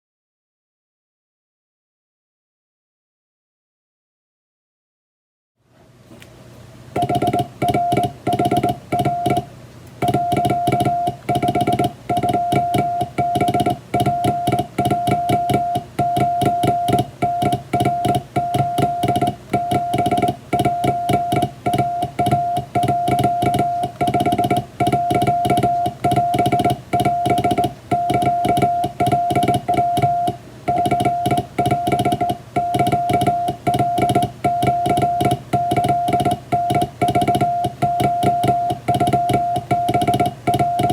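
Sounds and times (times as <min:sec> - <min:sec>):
morse code beeps: 0:07.0 - 0:40.9.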